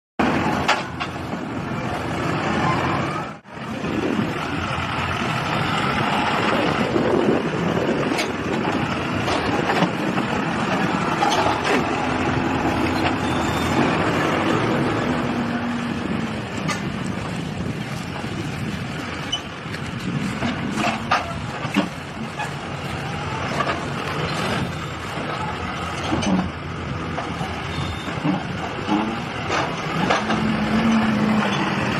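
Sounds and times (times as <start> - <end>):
heavy machinery running: 0.2 - 31.9.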